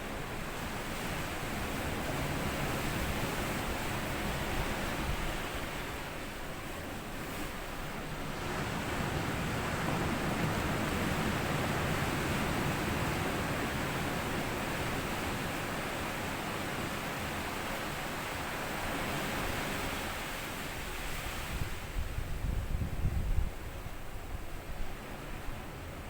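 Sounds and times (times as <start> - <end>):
sea waves washing over shore: 0.0 - 22.4.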